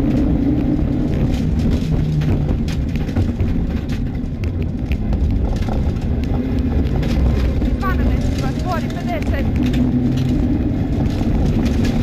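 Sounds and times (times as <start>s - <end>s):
car engine running hard: 0.0s - 12.0s
sharp clicks and knocks: 0.0s - 12.0s.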